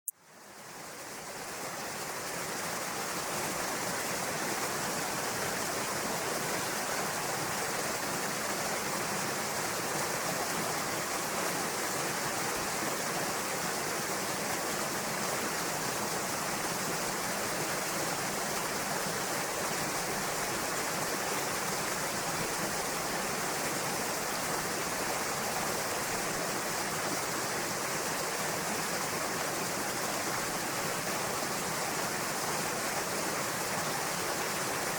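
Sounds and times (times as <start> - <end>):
waterfall rushing into a pool: 0.2 - 34.9.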